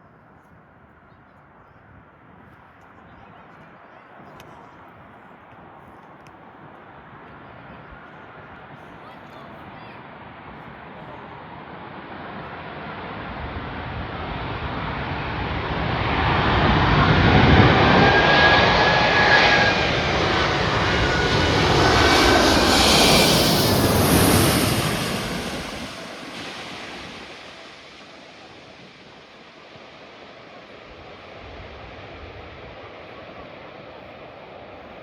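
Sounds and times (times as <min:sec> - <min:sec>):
jet airliner landing: 0:05.6 - 0:35.0.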